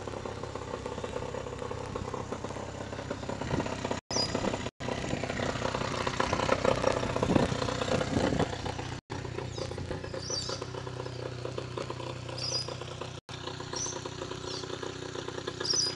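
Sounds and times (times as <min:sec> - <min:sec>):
outboard motor running: 0:00.0 - 0:15.9.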